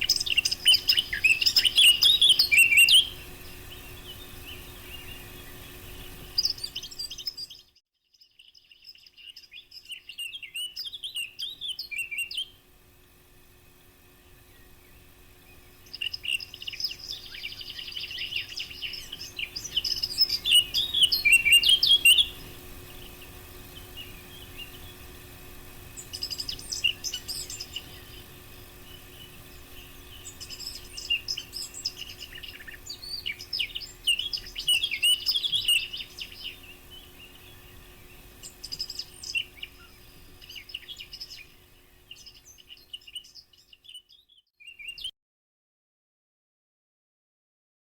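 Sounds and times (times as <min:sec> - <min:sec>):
bird singing warbling phrases: 0:00.0 - 0:07.6, 0:08.4 - 0:12.6, 0:15.5 - 0:25.1, 0:26.0 - 0:45.1.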